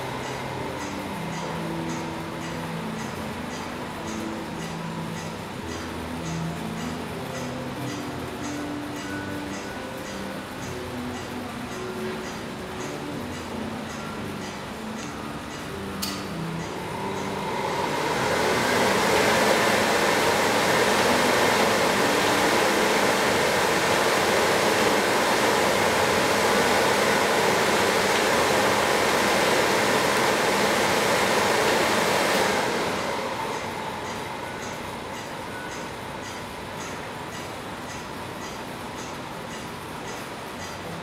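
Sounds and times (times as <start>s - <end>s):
construction machinery: 0.0s - 41.0s.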